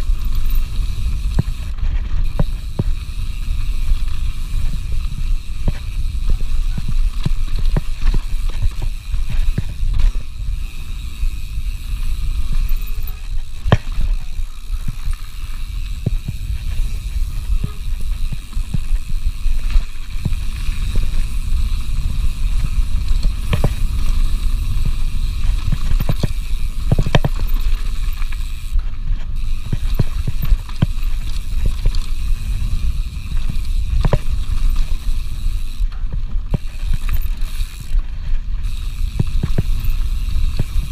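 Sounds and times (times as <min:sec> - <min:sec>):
bike knocking and rattling: 0:00.0 - 0:40.9
tyres on dirt: 0:00.0 - 0:40.9
wind on microphone: 0:00.0 - 0:40.9.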